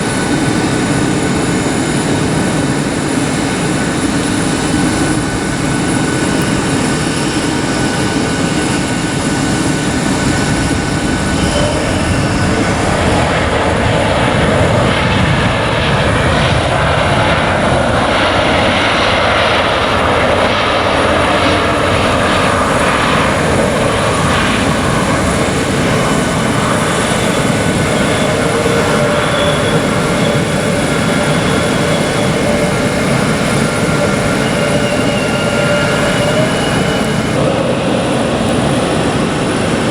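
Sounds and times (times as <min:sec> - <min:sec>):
airliner jet engines passing: 0:00.0 - 0:39.9.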